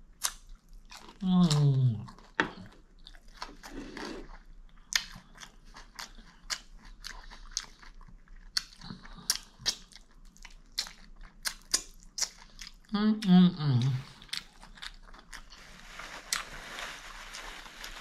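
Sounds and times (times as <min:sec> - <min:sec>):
person chewing crunchy food: 0:00.1 - 0:12.9, 0:13.7 - 0:16.5.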